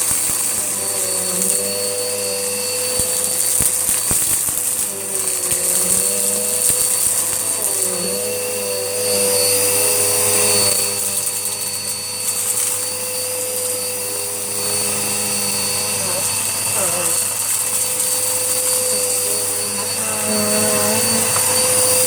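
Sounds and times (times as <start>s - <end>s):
upright vacuum cleaner running: 0.0s - 22.0s.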